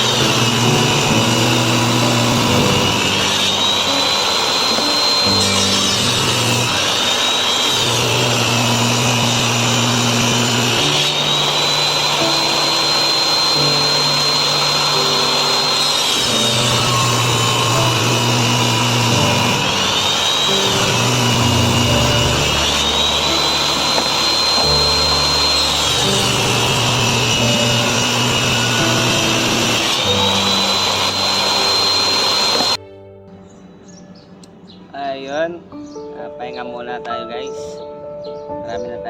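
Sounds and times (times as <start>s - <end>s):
power tool whining on wood: 0.0s - 32.8s
background music: 0.0s - 39.0s.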